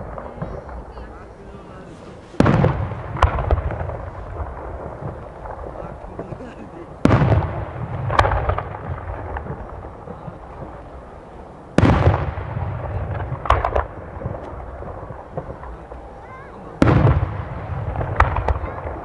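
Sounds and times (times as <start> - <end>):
firework sharp pops: 0.0 - 11.2, 11.8 - 19.0
firework booms: 0.0 - 19.0.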